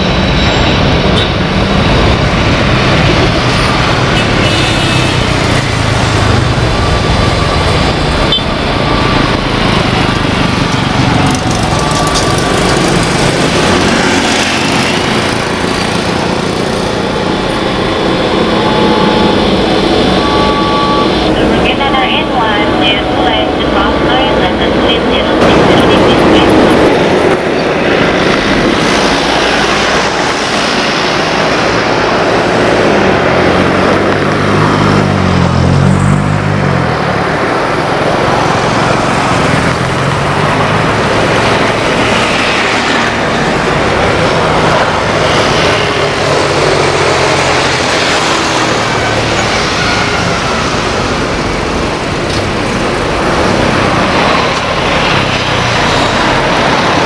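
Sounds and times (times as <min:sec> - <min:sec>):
jet airliner landing: 0:00.0 - 0:57.0.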